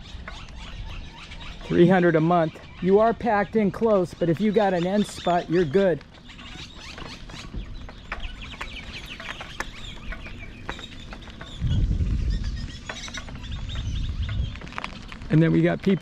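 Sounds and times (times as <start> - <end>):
birds chirping and clucking: 0.0 - 15.8.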